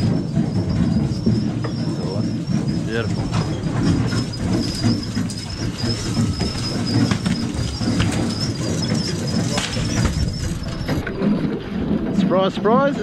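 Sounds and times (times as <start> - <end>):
boat diesel engine rumbling: 0.0 - 13.0.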